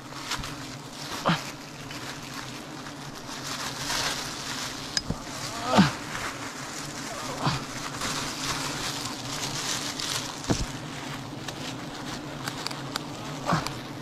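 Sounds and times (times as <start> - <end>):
bees buzzing: 0.0 - 14.0
plastic bag crinkling: 0.0 - 14.0.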